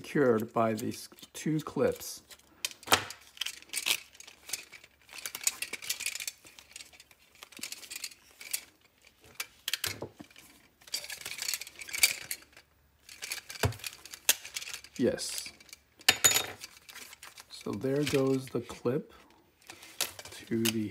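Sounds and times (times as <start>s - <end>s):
plastic clicks scrapes and rustles: 0.3s - 15.8s, 16.6s - 20.9s.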